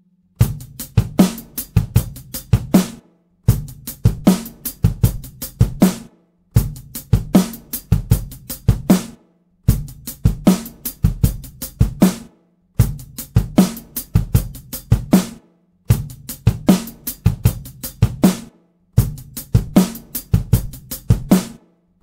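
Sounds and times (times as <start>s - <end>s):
drum kit beat: 0.4s - 21.6s.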